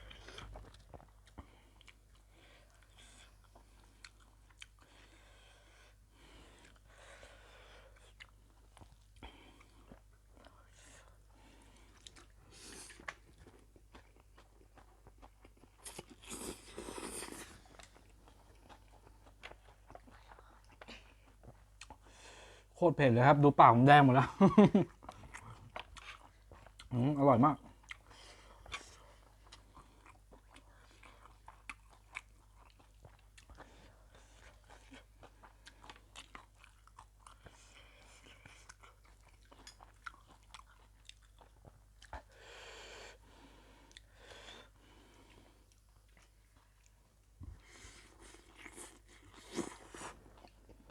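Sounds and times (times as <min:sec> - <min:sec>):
person chewing food: 0:00.0 - 0:22.8, 0:23.9 - 0:50.9.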